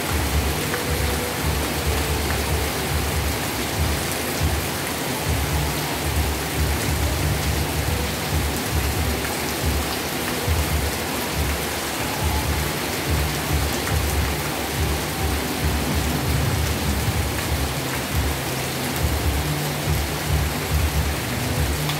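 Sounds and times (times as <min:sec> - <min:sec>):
heavy rain hissing: 0:00.0 - 0:21.9.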